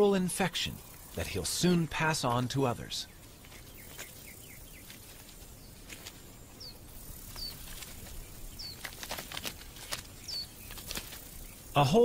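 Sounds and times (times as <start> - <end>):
faint outdoor background: 0.0 - 12.0
small bird chirping: 0.7 - 12.0.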